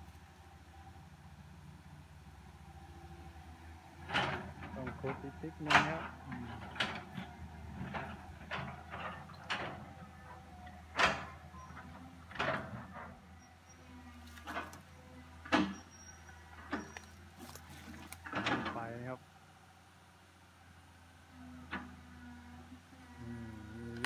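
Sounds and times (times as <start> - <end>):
excavator engine hum: 0.0 - 24.0.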